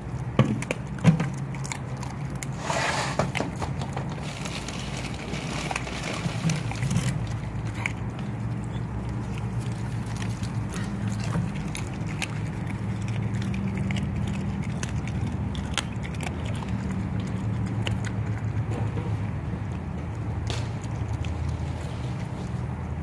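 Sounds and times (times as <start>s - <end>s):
dog chewing with crunches: 0.0s - 23.0s.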